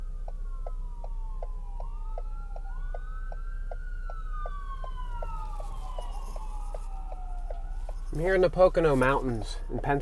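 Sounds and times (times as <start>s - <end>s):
low rumble of car: 0.0s - 10.0s
turn signal ticking: 0.0s - 10.0s.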